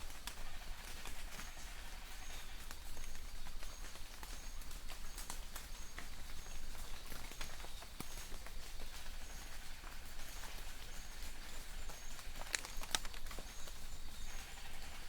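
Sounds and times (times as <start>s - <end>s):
distant birds calling: 0.0s - 15.0s
rain drops ticking on leaves: 0.0s - 15.0s
steady rain hiss: 0.0s - 15.0s.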